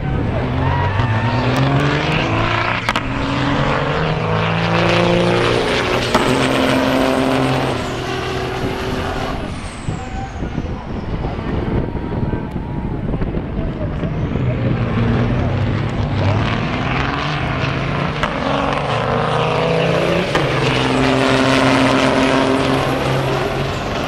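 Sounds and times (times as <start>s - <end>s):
diesel truck engines accelerating: 0.0s - 24.0s
truck passing by: 0.0s - 24.0s.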